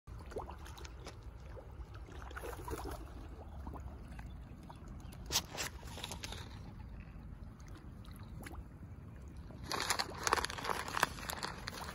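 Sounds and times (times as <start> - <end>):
water lapping and trickling: 0.1 - 11.9.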